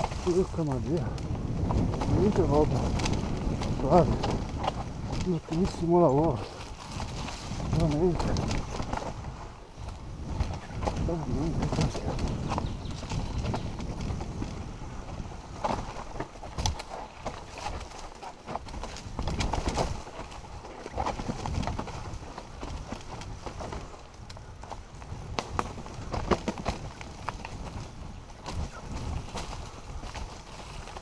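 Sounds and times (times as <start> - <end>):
bike clicks and rattles: 0.0 - 31.0
wind noise: 0.0 - 31.0.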